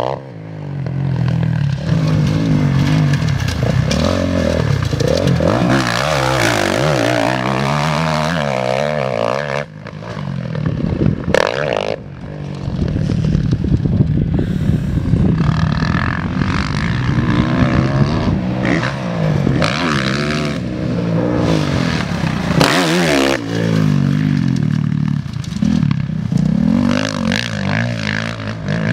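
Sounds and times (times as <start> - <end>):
motocross bike engine revving: 0.9 - 13.4, 14.4 - 28.9.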